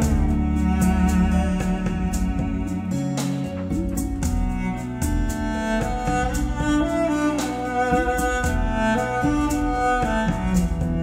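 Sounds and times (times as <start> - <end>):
bowed string melody: 0.0 - 11.0
steady bass line: 0.0 - 11.0.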